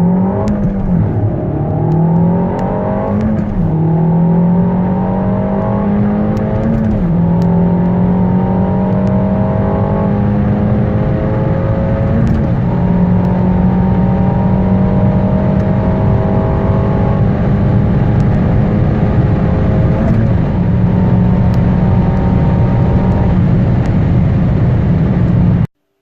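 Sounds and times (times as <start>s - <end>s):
car engine at full throttle: 0.0s - 25.7s.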